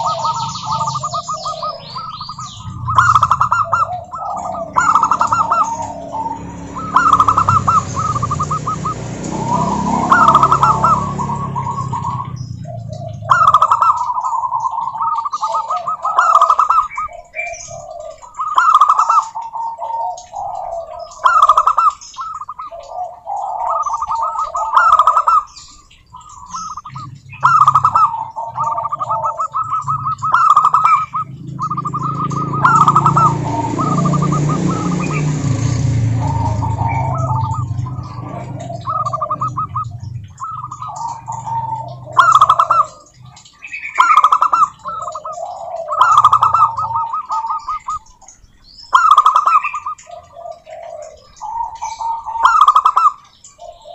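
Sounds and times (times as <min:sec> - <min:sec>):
dove trilling coo: 0:00.0 - 0:53.9.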